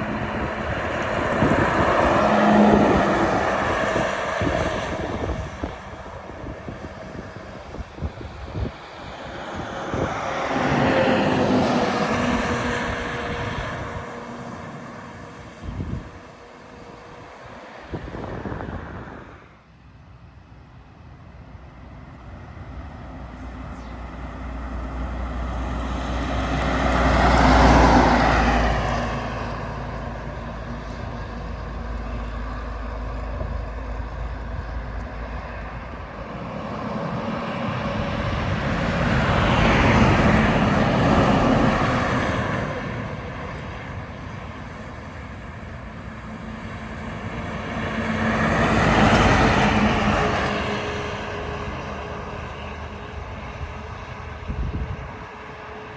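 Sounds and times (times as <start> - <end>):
trucks driving past: 0.0 - 55.9.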